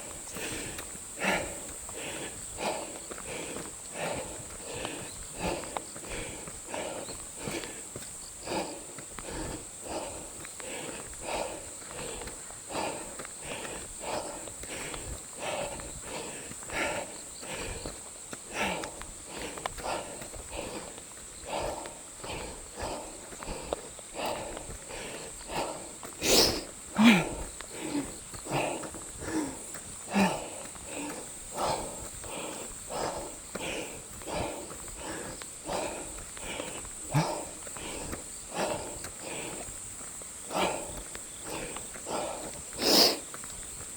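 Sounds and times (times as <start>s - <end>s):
heavy rhythmic breathing: 0.0s - 43.9s
running footsteps: 0.0s - 43.9s.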